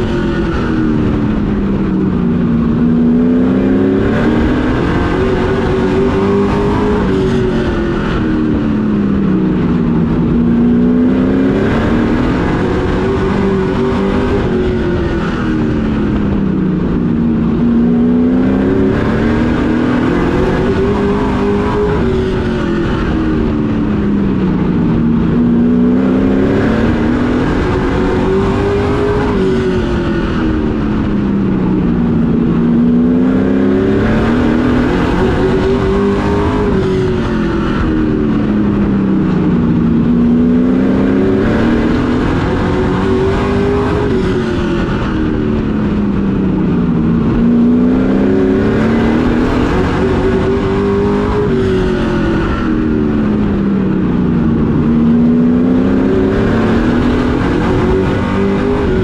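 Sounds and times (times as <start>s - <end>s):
race truck engine revving: 0.0s - 59.0s.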